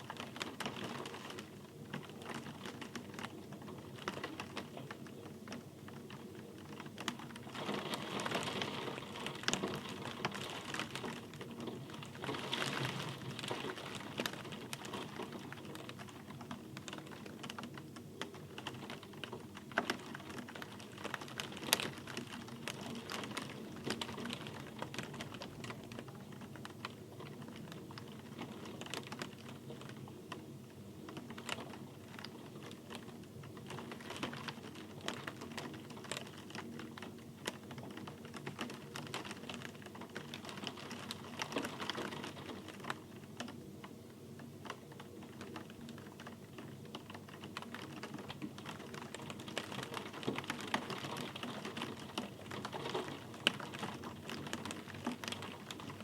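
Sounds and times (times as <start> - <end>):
rain falling: 0.0 - 30.0, 31.0 - 43.6, 44.6 - 56.0
raindrops ticking: 0.0 - 56.0.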